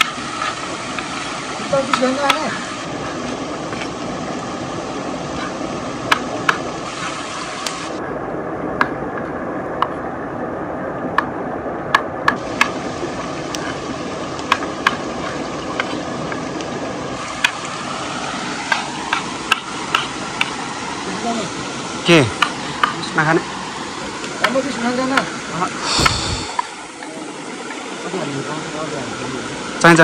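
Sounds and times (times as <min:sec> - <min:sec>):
small waterfall rushing: 0:00.0 - 0:30.0.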